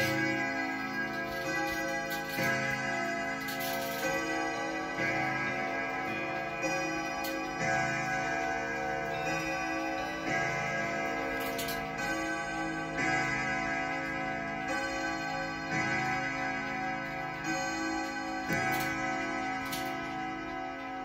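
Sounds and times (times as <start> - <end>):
clock striking gong rods: 0.0 - 21.0.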